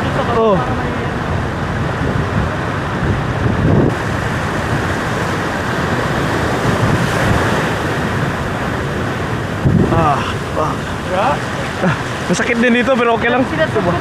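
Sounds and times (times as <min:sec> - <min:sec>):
surf breaking against rocks: 0:00.0 - 0:14.0
wind buffeting microphone: 0:00.0 - 0:14.0.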